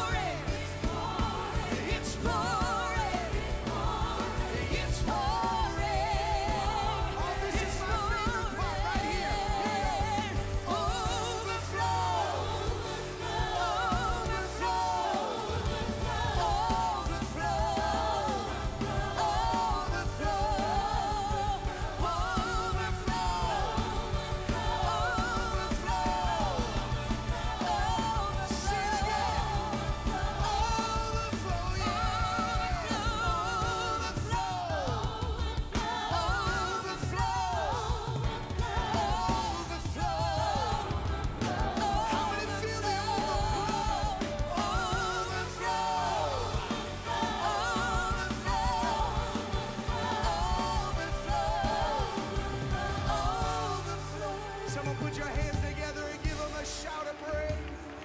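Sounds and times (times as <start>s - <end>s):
bass: 0.0s - 58.0s
drum kit: 0.0s - 58.0s
keyboard: 0.0s - 58.0s
singers with vibrato: 0.0s - 58.0s.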